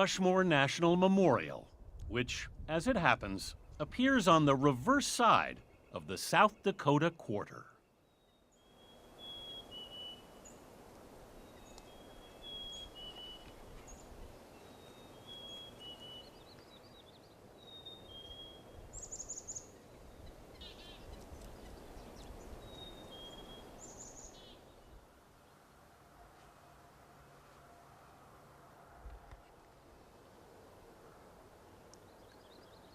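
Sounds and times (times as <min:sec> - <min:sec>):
steady outdoor hiss: 0:00.0 - 0:32.9.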